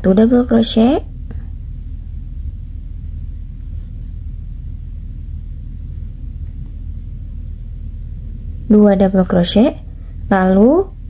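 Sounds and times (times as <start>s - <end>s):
faint hum: 0.0s - 11.0s
low background rumble: 0.0s - 11.0s.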